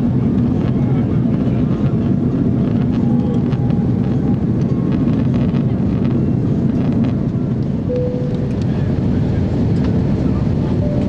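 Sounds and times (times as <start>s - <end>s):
jet engine roar in cabin: 0.0s - 11.0s.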